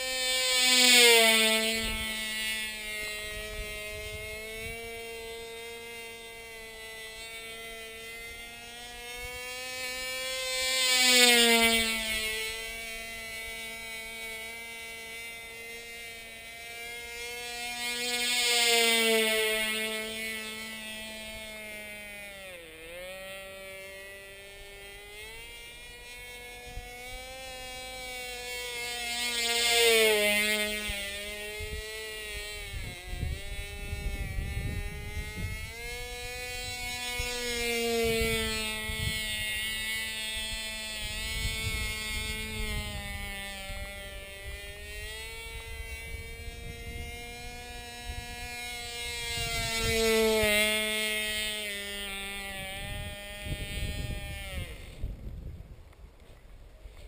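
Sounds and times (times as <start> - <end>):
model airplane engine buzzing: 0.0 - 57.0.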